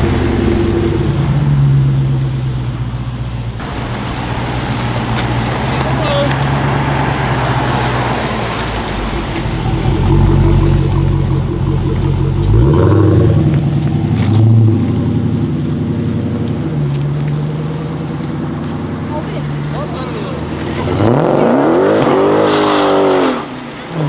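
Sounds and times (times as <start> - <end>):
engine revving: 0.0 - 2.7, 3.6 - 24.0
car engine exhaust rumble: 0.0 - 24.0.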